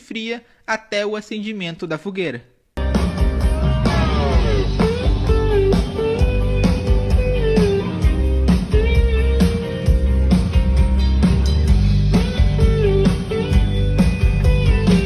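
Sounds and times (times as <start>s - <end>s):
blues-rock music: 2.8s - 15.0s
electric guitar bending notes: 2.8s - 15.0s.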